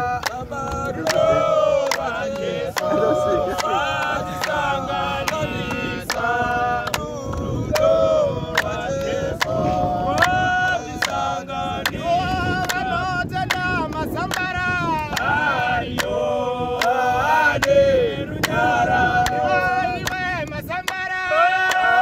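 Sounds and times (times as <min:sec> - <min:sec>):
handclaps: 0:00.0 - 0:16.2, 0:16.8 - 0:22.0
men singing a cappella: 0:00.0 - 0:22.0.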